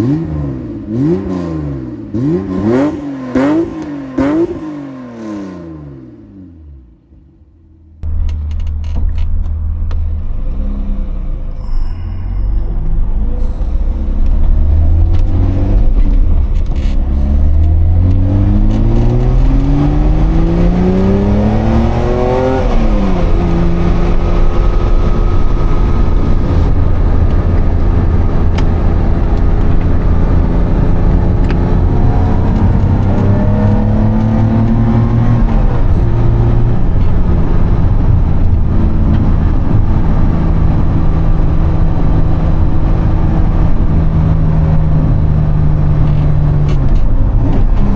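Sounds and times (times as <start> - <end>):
car engine accelerating: 0.0 - 11.7, 12.4 - 47.9.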